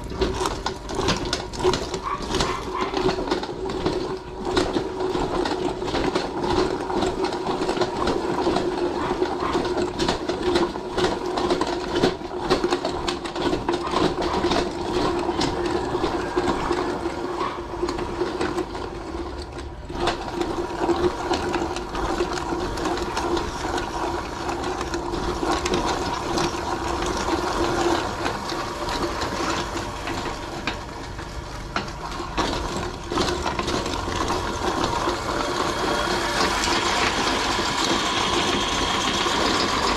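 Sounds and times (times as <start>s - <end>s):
bones crackling in grinder: 0.0s - 39.9s
meat grinder humming: 0.0s - 39.9s.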